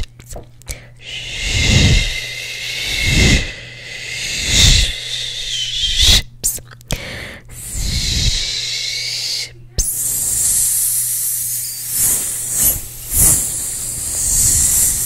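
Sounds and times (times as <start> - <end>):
low steady hum: 0.0 - 15.0
mouth hissing into microphone: 1.0 - 6.6, 7.6 - 15.0.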